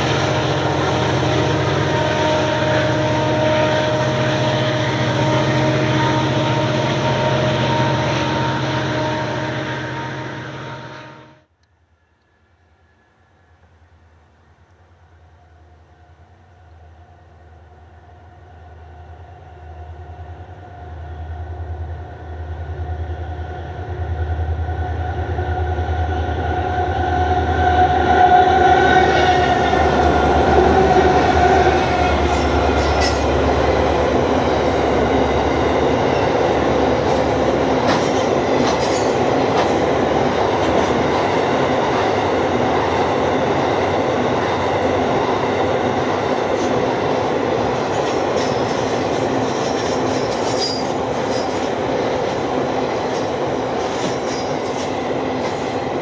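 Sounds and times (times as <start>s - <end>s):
diesel locomotives droning: 0.0s - 56.0s.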